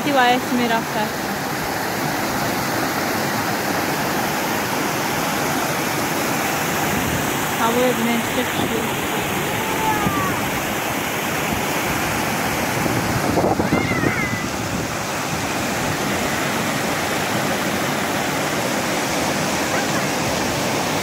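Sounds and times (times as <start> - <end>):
water rushing over a weir: 0.0 - 21.0.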